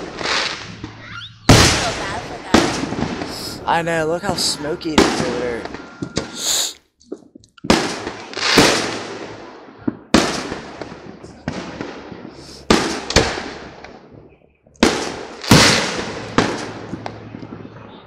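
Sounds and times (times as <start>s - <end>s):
fireworks booming: 0.0s - 18.0s.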